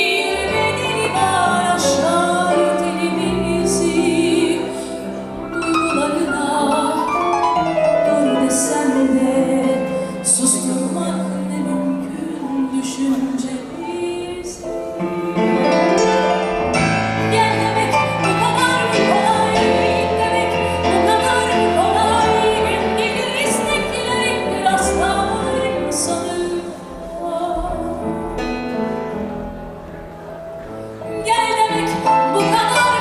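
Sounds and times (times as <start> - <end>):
live band with piano: 0.0 - 33.0.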